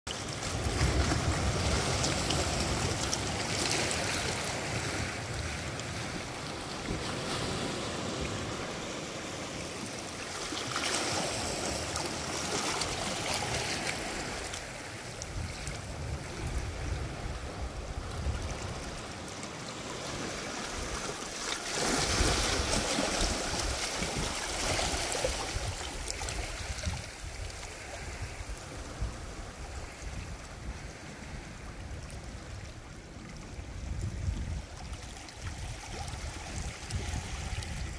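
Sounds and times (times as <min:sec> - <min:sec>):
sea waves surging against rocks: 0:00.1 - 0:31.8.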